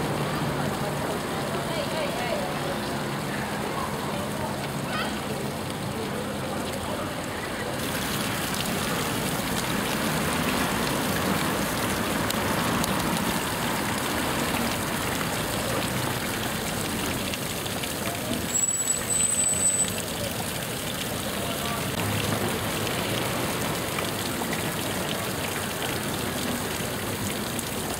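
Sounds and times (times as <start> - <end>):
fountain water splashing: 0.0 - 27.9
road traffic passing: 0.0 - 27.9
street noise: 0.0 - 27.9.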